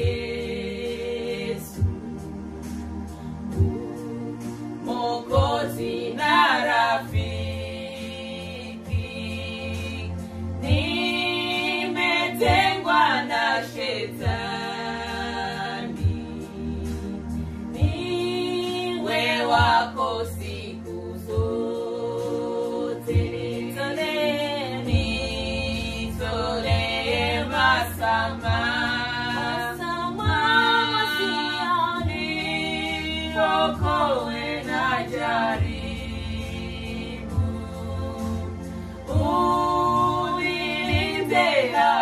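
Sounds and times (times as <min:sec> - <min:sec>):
women singing in harmony: 0:00.0 - 0:02.9, 0:03.5 - 0:42.0
soft low beat: 0:00.0 - 0:07.7, 0:08.8 - 0:21.8, 0:24.8 - 0:41.8.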